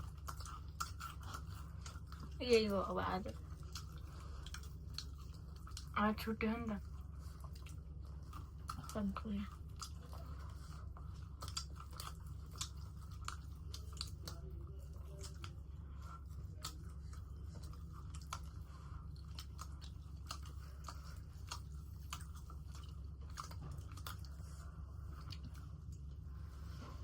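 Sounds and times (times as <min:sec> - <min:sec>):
chewing crunchy food: 0:00.0 - 0:27.0.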